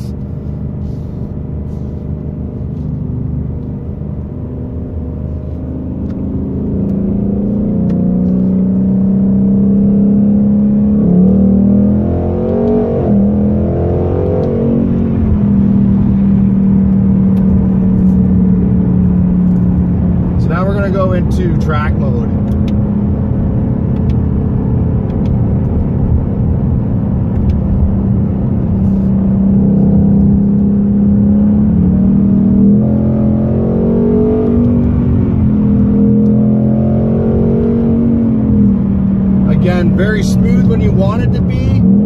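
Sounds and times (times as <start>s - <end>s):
car engine droning from inside cabin: 0.0s - 42.0s.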